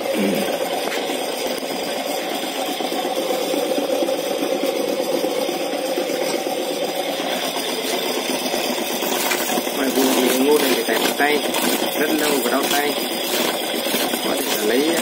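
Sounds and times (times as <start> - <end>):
corn sheller mechanical whirr: 0.0 - 15.0.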